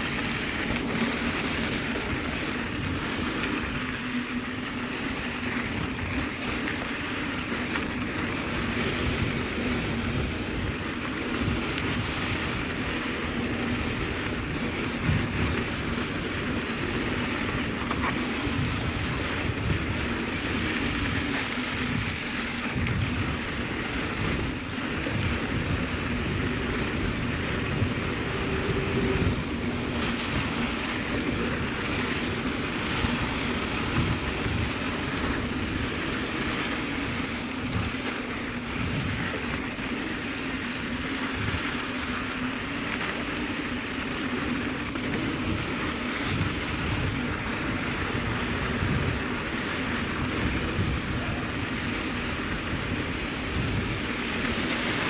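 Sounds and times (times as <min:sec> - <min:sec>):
bike tyres rolling on sand: 0:00.0 - 0:55.0
wind buffeting microphone: 0:00.0 - 0:55.0.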